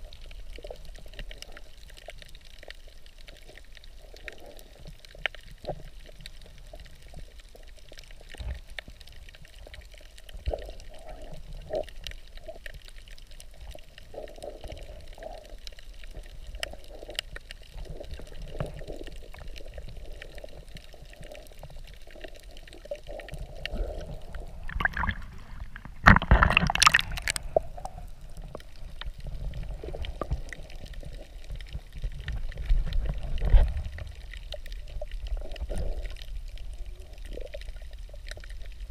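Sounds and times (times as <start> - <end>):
underwater gurgling: 0.0 - 38.9.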